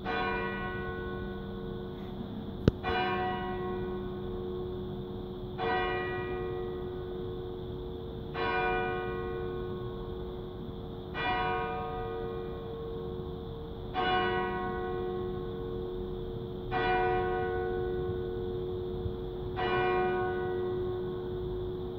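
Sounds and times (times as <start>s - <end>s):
church bell ringing: 0.0s - 21.9s.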